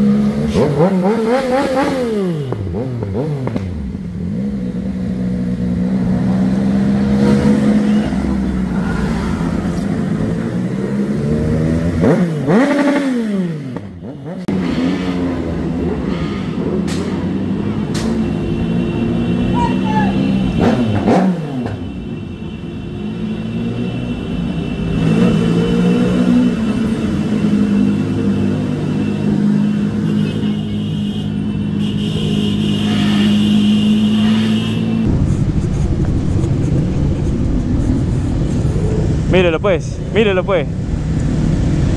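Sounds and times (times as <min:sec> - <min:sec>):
motorcycle engine revving: 0:00.0 - 0:22.2, 0:23.0 - 0:41.9.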